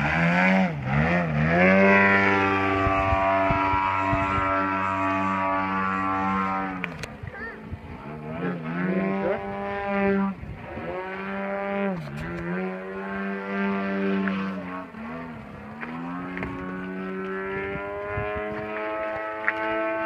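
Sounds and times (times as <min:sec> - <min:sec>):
model plane engine droning: 0:00.0 - 0:20.0.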